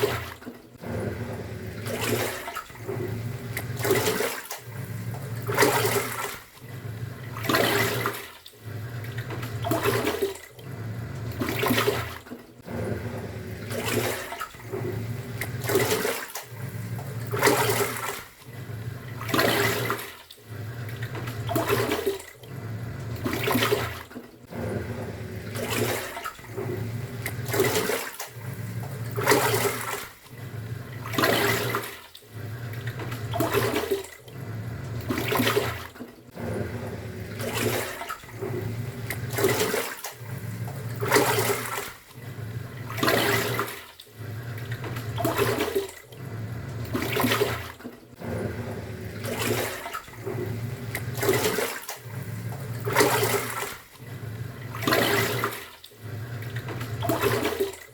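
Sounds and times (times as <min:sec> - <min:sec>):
washing machine motor humming: 0:00.0 - 0:57.9
water sloshing in washing machine: 0:00.0 - 0:57.9.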